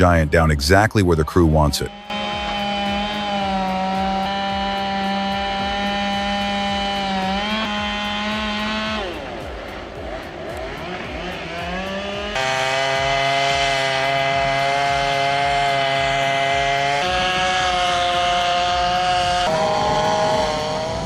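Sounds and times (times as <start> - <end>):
engine running at high revs: 1.4 - 21.0.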